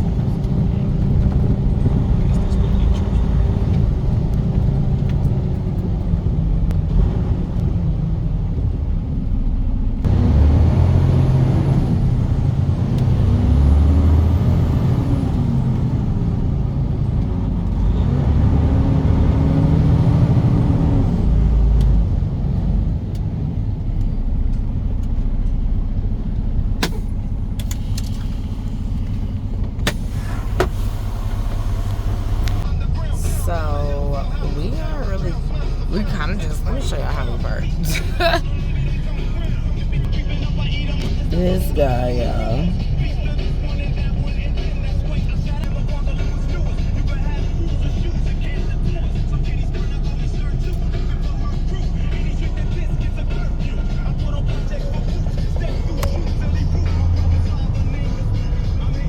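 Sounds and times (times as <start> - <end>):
truck engine revving: 0.0 - 9.1, 10.0 - 59.0.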